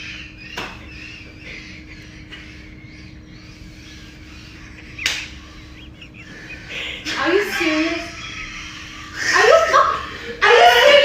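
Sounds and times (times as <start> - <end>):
bird squawking: 0.0 - 11.0.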